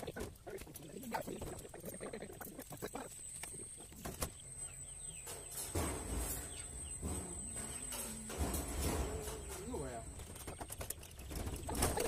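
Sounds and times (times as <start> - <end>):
thin high whine: 0.8 - 10.7.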